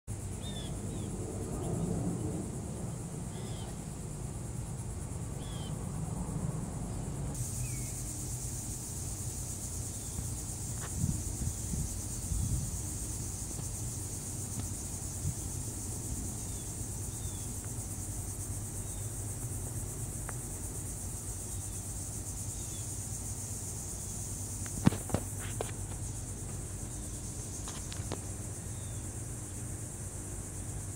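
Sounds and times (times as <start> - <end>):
constant low rumble: 0.1 - 30.9
high insect chorus: 0.1 - 30.9.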